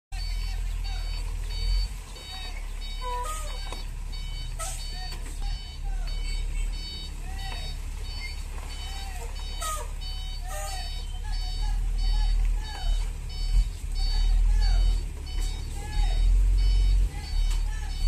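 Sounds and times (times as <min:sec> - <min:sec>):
diesel engine rumble: 0:00.1 - 0:18.0
reversing alarm beeps: 0:00.2 - 0:18.0.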